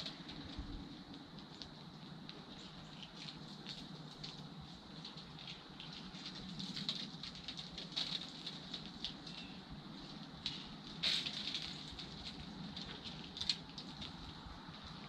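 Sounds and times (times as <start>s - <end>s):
squirrel crunching seeds: 0.0s - 15.0s.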